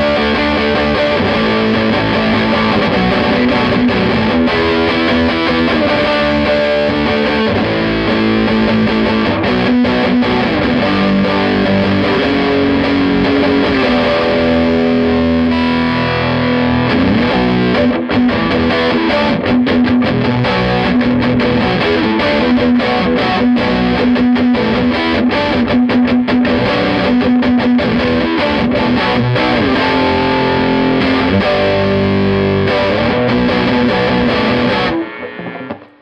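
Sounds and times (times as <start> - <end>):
distorted electric guitar: 0.0 - 36.0.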